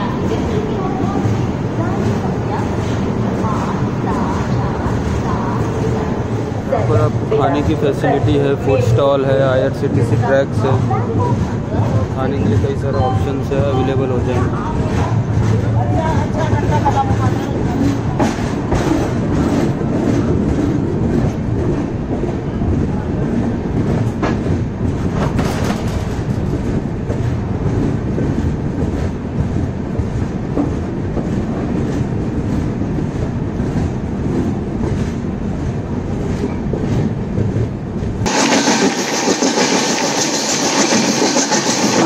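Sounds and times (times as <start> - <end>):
train coach rumbling: 0.0 - 42.0
wheels clacking over rails: 0.0 - 42.0.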